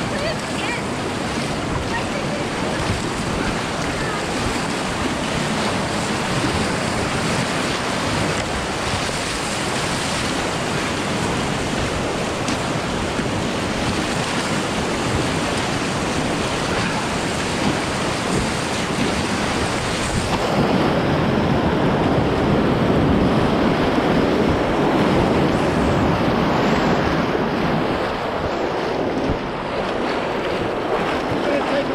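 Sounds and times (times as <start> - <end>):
whitewater rapids rushing: 0.0 - 31.9.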